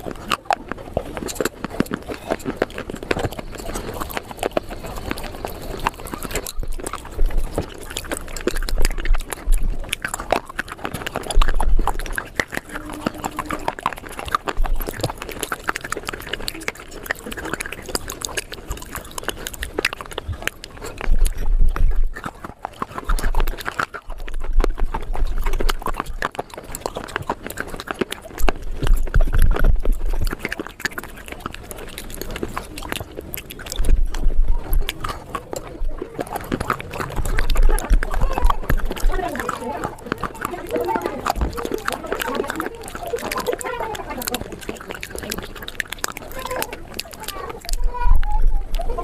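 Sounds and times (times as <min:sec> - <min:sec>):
crunchy chewing: 0:00.0 - 0:49.0.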